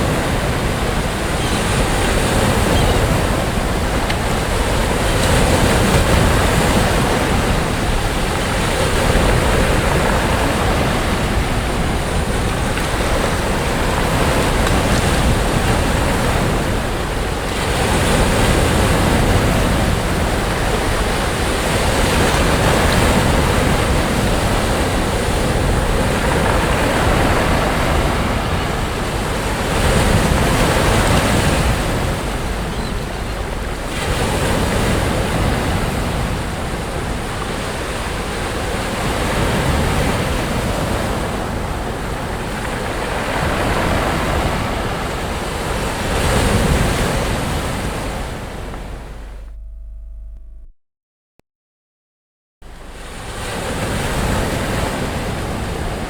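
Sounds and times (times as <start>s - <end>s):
sea waves breaking on beach: 0.0s - 49.3s, 52.7s - 56.0s.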